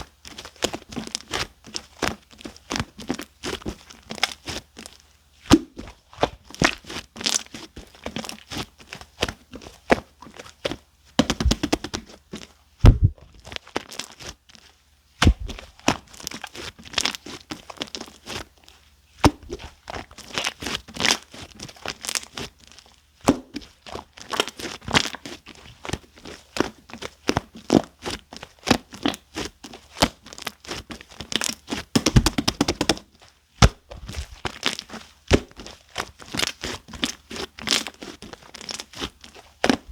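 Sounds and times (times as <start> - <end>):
slime squishing with crackles: 0.0 - 39.9.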